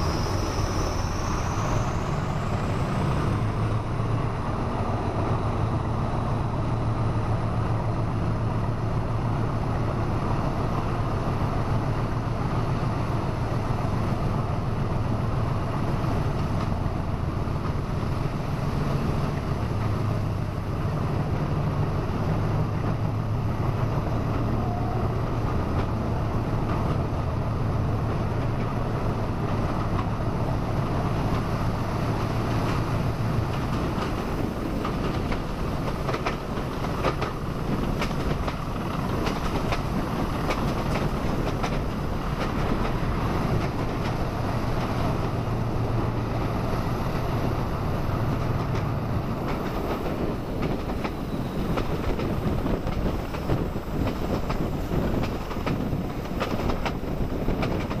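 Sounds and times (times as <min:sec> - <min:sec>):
diesel locomotive engine throbbing: 0:00.0 - 0:58.0
wheel-on-rail noise: 0:00.0 - 0:58.0.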